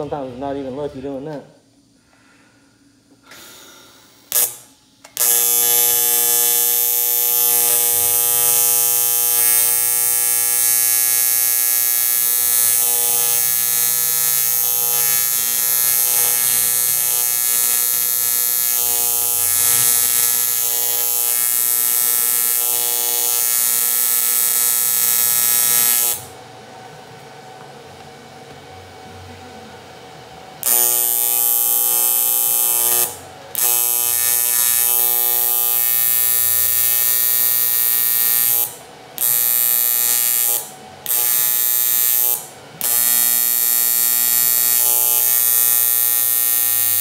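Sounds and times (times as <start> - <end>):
welder arc buzzing: 3.3 - 26.6, 28.8 - 47.0
sharp crackle of welding arc: 4.3 - 26.3, 30.6 - 47.0.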